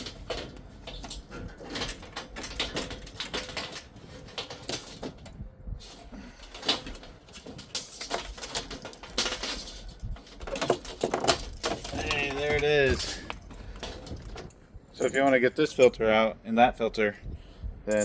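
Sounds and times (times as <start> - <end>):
dishwasher parts clicking and rattling: 0.0 - 15.4.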